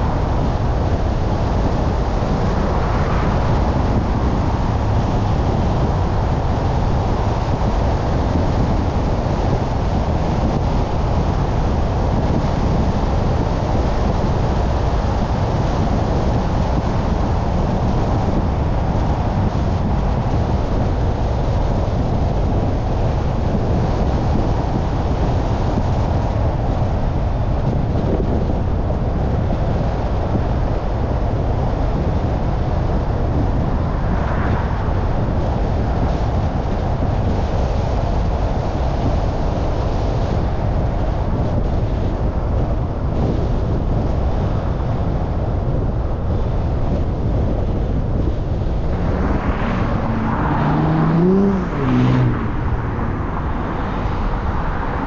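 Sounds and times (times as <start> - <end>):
tyre and road noise rumble: 0.0 - 55.0
wind on microphone: 0.0 - 55.0.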